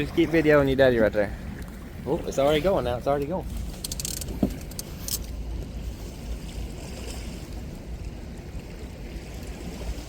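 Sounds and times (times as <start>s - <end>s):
wind and water rumbling: 0.0s - 10.0s.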